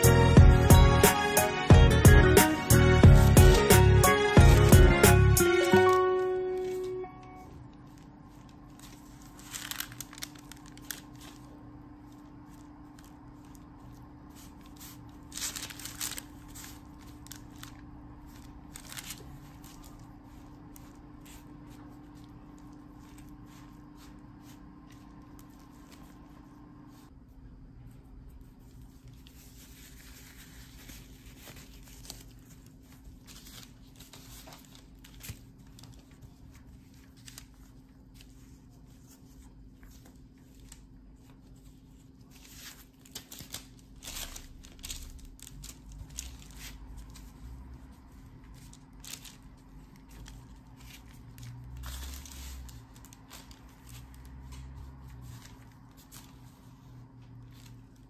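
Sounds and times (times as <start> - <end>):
parchment paper crinkling: 5.4 - 58.0.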